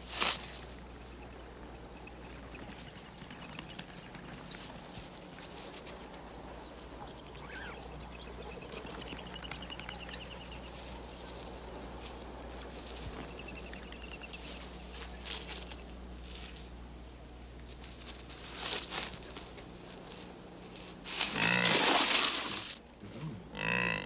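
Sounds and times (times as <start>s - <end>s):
low steady hum: 0.0s - 24.0s
scratching and rustling patter: 2.3s - 8.0s, 8.6s - 16.9s, 17.6s - 22.8s.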